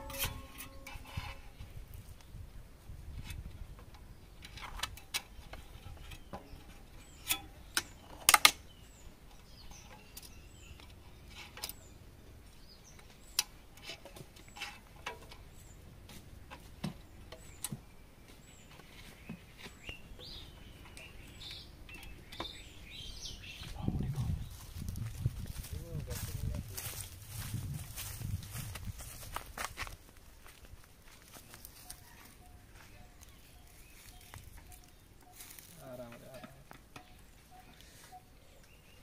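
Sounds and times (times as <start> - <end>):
birds chirping faintly: 0.0 - 39.0.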